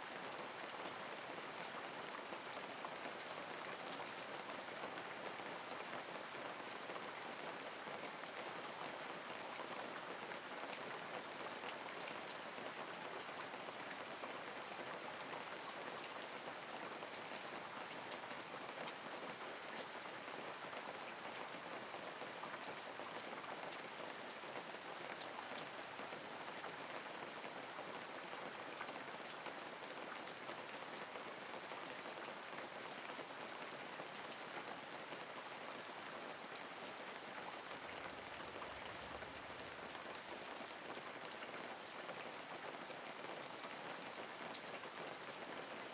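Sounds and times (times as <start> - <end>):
light steady rain: 0.0 - 45.9.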